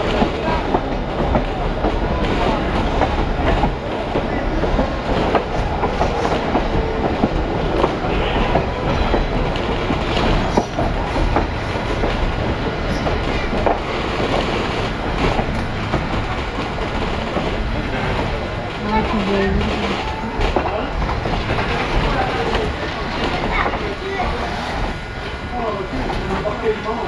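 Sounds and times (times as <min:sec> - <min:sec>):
train coach rumbling: 0:00.0 - 0:27.0
train wheels clicking on rails: 0:00.0 - 0:27.0.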